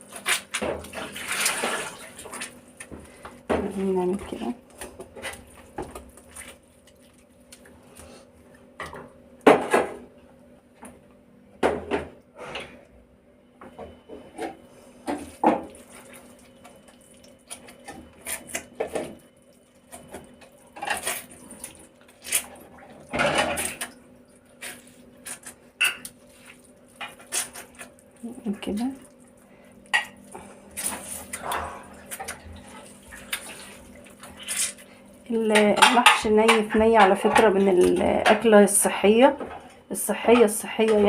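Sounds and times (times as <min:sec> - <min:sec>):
faint steady hum: 0:01.2 - 0:41.0.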